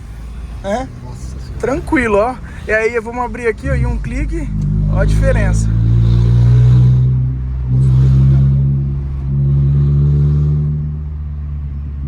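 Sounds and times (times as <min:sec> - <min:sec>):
car exhaust rumble: 0:00.0 - 0:12.0.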